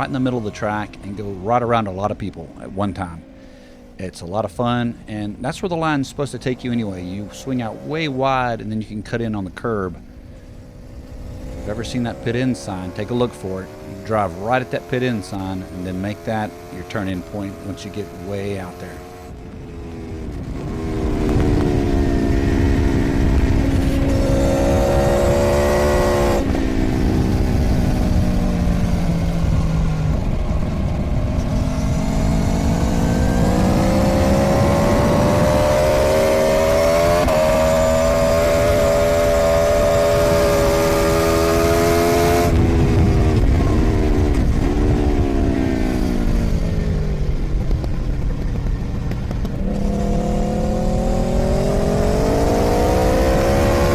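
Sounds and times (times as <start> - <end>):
wind rushing: 0.0 - 15.6, 18.9 - 53.9
motorcycle engine revving: 0.0 - 53.9.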